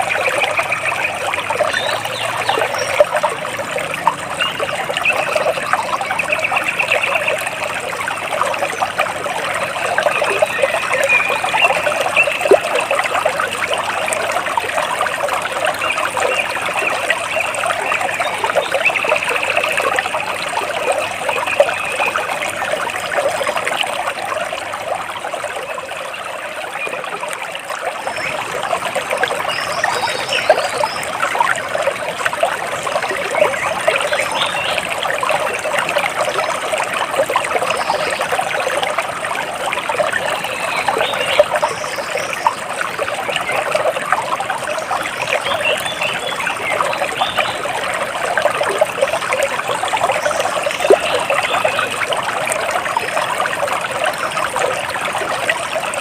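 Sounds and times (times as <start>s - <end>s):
water splashing and trickling: 0.0s - 56.0s.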